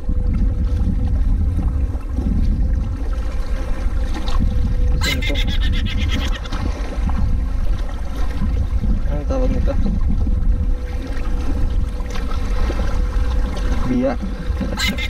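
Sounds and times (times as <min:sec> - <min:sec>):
water lapping: 0:00.0 - 0:15.0
wind rumble on microphone: 0:00.0 - 0:15.0.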